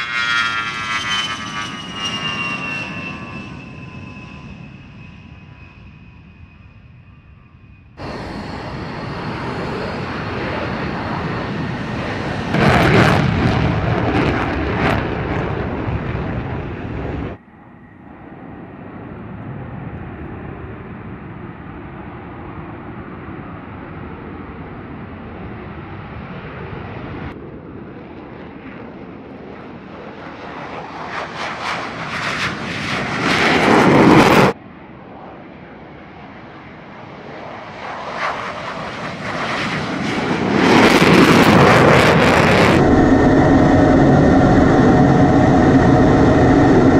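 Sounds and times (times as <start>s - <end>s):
distant jet noise: 0.0s - 46.9s
jet engine roar: 0.0s - 46.9s.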